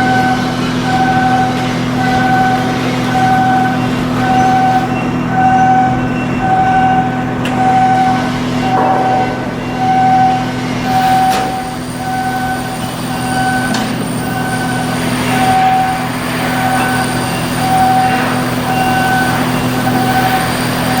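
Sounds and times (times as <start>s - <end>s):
electronic warning beeps: 0.0s - 21.0s
machinery hum: 0.0s - 21.0s.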